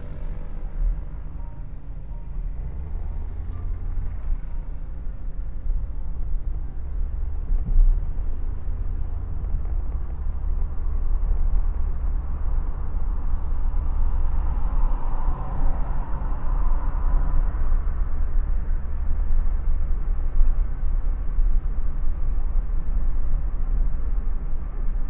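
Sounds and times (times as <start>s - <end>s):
car engine rumble: 0.0s - 25.0s
road noise: 0.0s - 25.0s.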